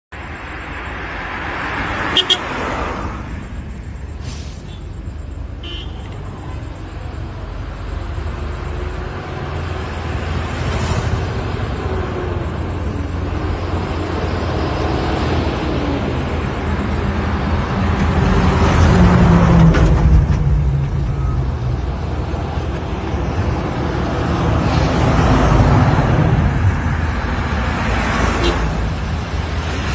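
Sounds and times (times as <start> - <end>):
road noise: 0.1 - 29.9.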